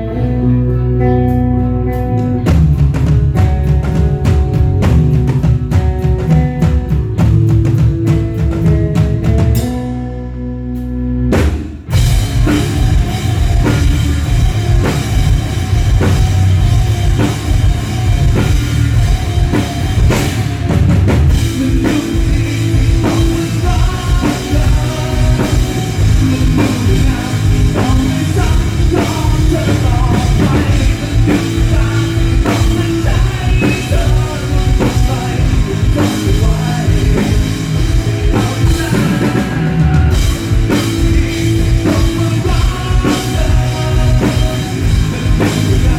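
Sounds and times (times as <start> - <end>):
rock music with singing: 0.0 - 45.9.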